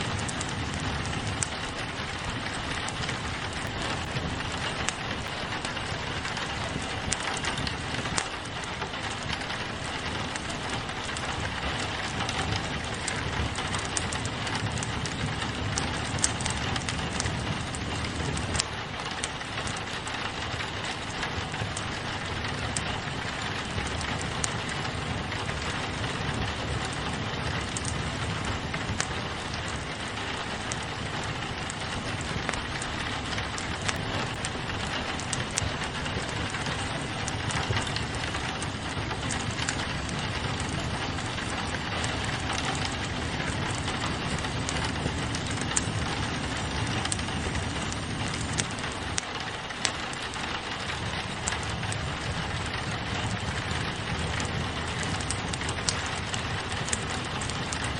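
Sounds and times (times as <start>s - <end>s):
fireplace fire crackling: 0.0s - 57.9s
rain pattering on a window: 0.0s - 57.9s.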